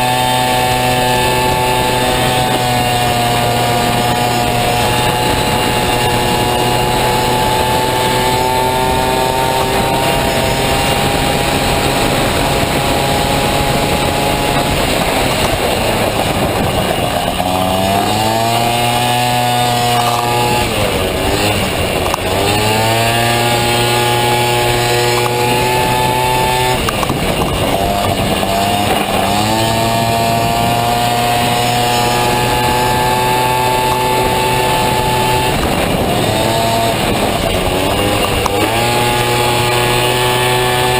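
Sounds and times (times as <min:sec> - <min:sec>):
scooter engine racing at high revs: 0:00.0 - 0:40.9.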